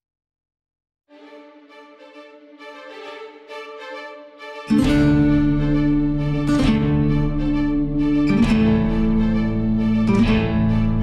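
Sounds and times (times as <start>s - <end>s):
instrumental background music: 1.1s - 11.0s.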